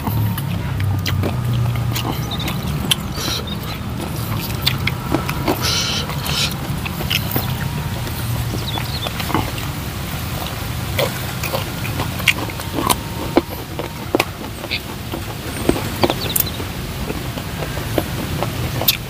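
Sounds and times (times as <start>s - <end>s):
chewing and lip-smacking: 0.0s - 19.0s
low background noise: 0.0s - 19.0s.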